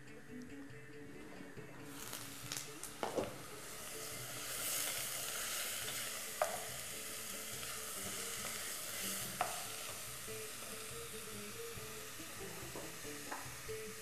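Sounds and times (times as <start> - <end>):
food sizzling in a pot: 0.1 - 14.0.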